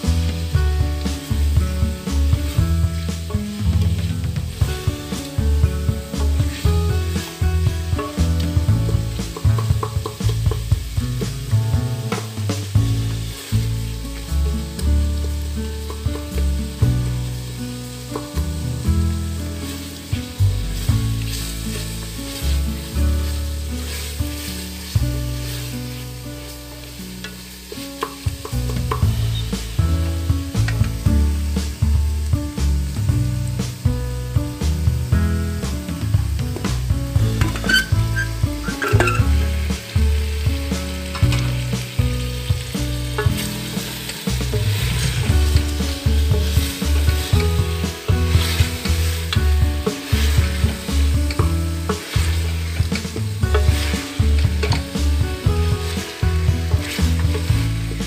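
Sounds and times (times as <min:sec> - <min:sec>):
meat sizzling in oil: 0:00.0 - 0:58.0
music with low bass notes: 0:00.0 - 0:58.0.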